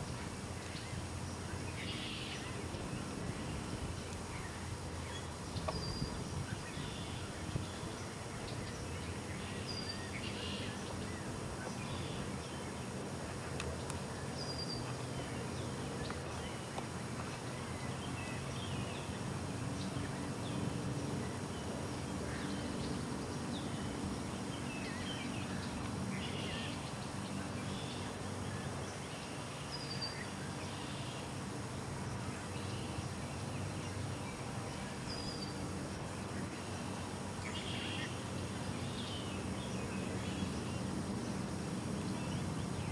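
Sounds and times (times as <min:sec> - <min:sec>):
outdoor background hiss: 0:00.0 - 0:42.9.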